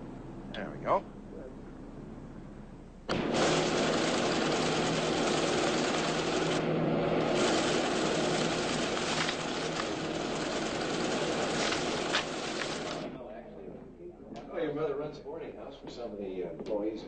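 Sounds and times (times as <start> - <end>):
loud mechanical noise with hum: 0.0 - 13.9.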